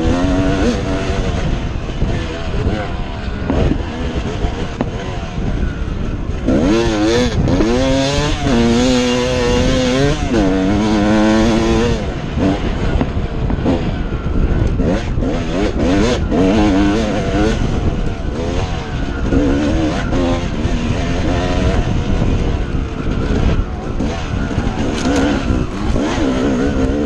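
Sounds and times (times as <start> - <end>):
dirt bike engine revving: 0.0 - 27.0
steady rushing noise: 0.0 - 27.0.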